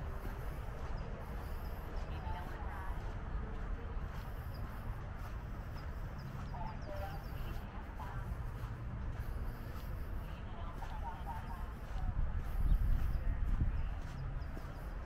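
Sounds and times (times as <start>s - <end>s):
distant voices: 0.0s - 15.0s.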